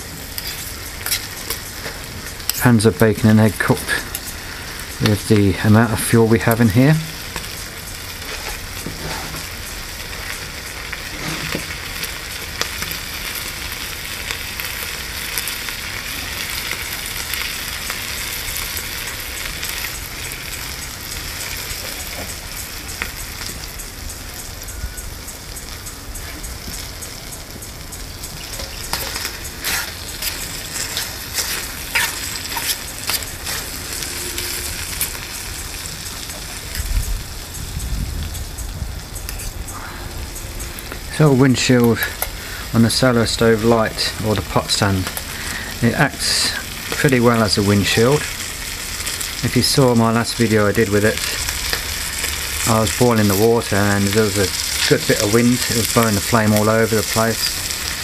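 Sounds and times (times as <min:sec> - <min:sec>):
bacon sizzling with pops: 0:00.0 - 0:58.0.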